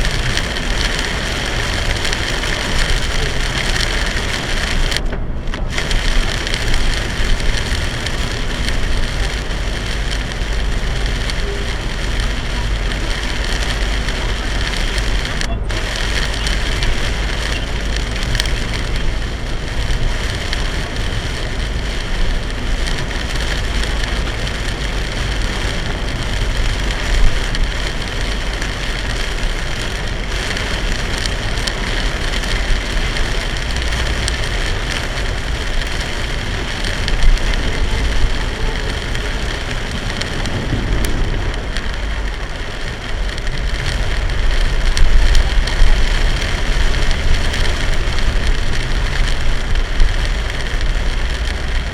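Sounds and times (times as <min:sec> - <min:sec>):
heavy rain drumming on a car: 0:00.0 - 0:51.9
road noise rumble: 0:00.0 - 0:51.9.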